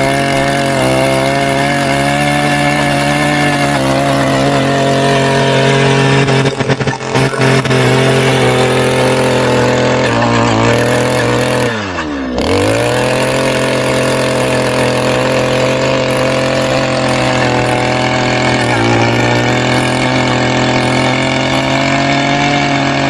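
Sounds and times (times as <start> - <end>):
small petrol engine running: 0.0 - 23.0.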